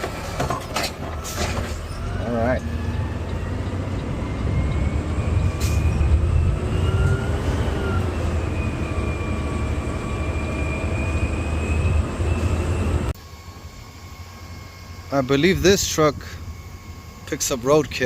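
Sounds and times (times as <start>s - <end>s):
drivetrain whine: 0.0s - 18.0s
truck engine rumble: 0.0s - 18.0s.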